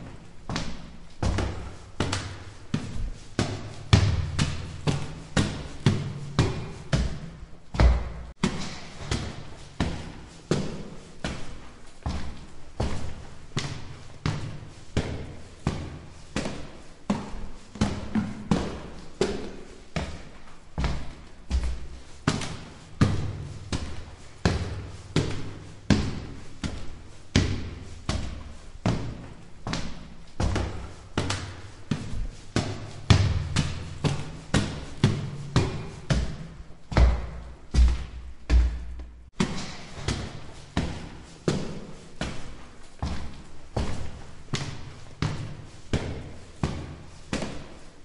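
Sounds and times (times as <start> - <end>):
footsteps climbing stairs: 0.0 - 48.0.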